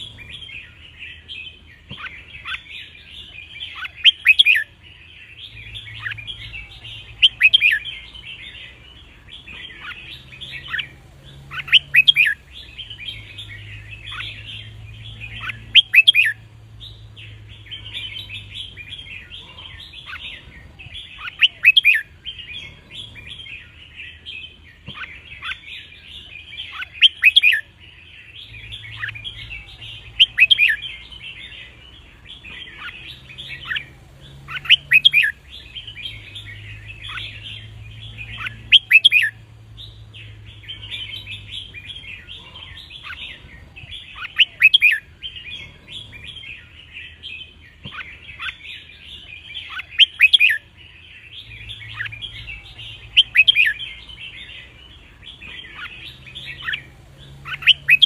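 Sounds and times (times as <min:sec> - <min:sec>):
birdsong chatter: 0:00.0 - 0:58.0.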